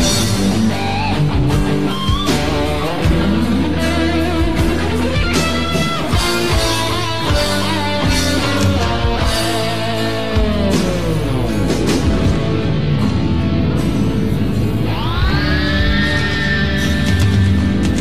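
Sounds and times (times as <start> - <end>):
pop-rock music led by guitar: 0.0 - 18.0.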